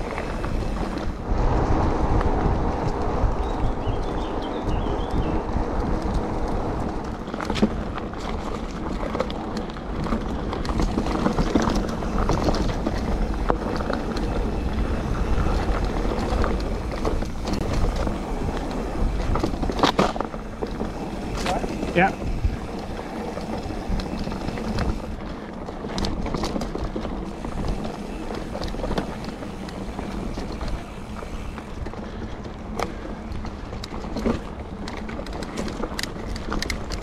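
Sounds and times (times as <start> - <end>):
bike clicks and rattles: 0.0 - 37.0
bike tyres crunching on dirt: 0.0 - 37.0
wind buffeting microphone: 0.0 - 37.0.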